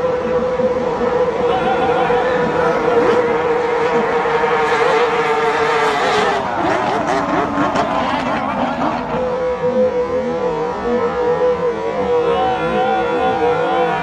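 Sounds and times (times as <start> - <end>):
racing boat engine whining: 0.0 - 14.0.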